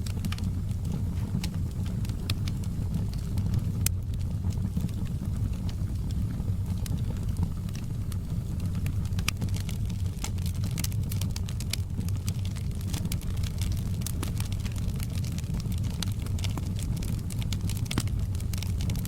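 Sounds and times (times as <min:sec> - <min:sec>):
low rumble of flame: 0:00.0 - 0:19.0
wood fire popping and snapping: 0:00.0 - 0:19.0.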